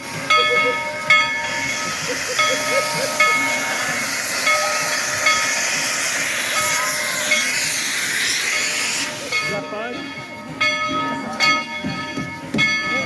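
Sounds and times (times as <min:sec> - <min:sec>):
locomotive bell ringing: 0:00.0 - 0:13.0
steam locomotive hissing: 0:00.0 - 0:13.0.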